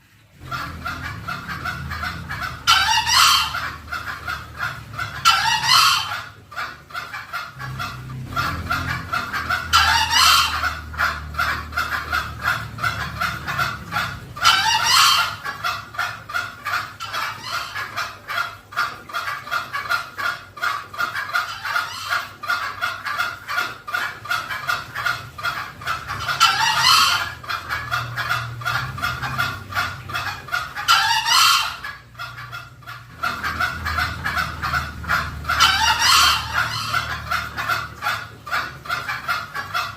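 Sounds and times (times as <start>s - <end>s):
fast clucking notes: 0.4s - 39.9s.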